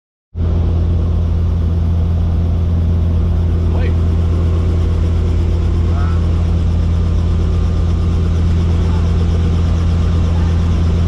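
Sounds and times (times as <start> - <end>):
helicopter rotor and engine drone: 0.4 - 11.0.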